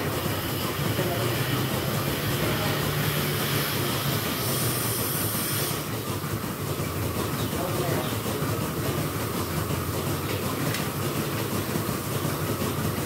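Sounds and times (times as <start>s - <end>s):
milking machinery humming: 0.0s - 13.0s.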